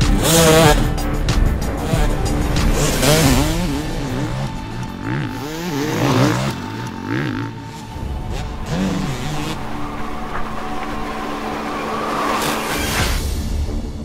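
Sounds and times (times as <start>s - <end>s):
motorbike engine revving: 0.0s - 13.2s
music track: 0.0s - 14.0s.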